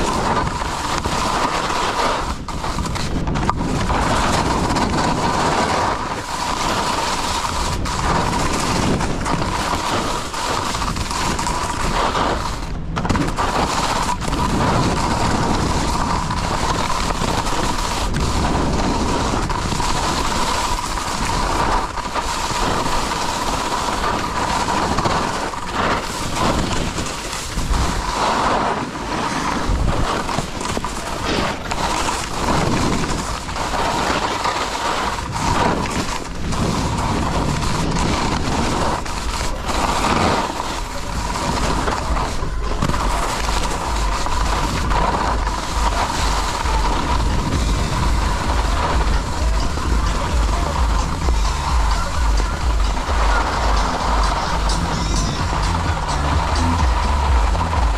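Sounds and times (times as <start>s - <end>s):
skis scraping on snow: 0.0s - 57.9s
wind on microphone: 0.0s - 57.9s.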